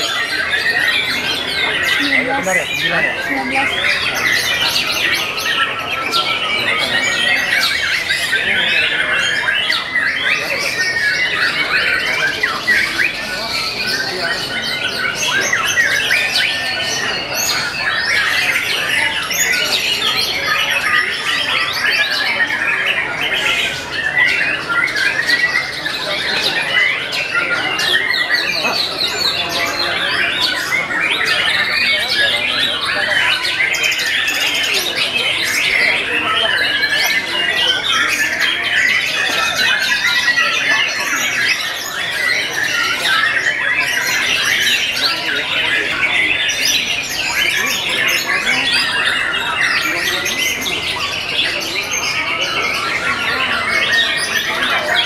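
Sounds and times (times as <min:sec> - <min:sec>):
songbirds singing in chorus: 0:00.0 - 0:55.0.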